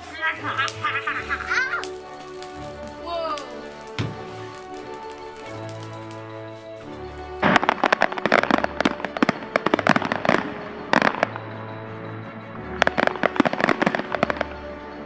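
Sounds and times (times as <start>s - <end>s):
background music: 0.0s - 15.0s
fireworks cracking and banging: 0.0s - 15.0s.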